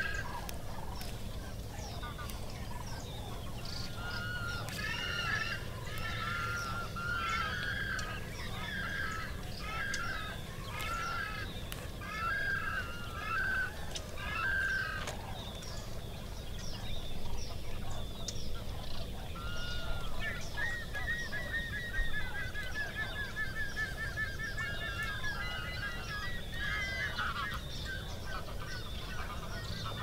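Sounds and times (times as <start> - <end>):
birds calling: 0.0 - 30.0
low steady rumble: 0.0 - 30.0.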